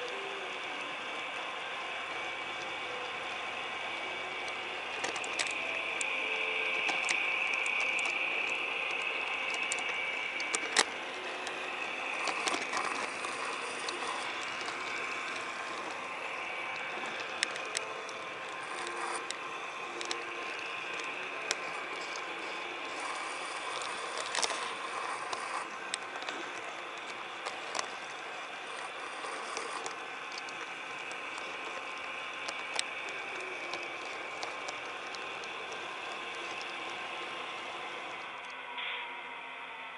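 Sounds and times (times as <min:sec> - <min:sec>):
wheels clicking over rail joints: 0:00.0 - 0:38.6
model train motor whirring: 0:00.0 - 0:38.9.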